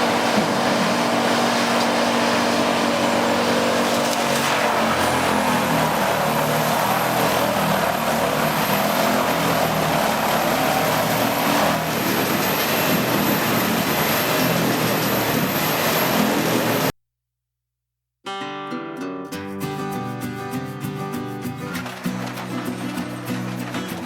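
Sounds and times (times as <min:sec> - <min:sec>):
wood chipper running: 0:00.0 - 0:16.9, 0:21.4 - 0:24.0.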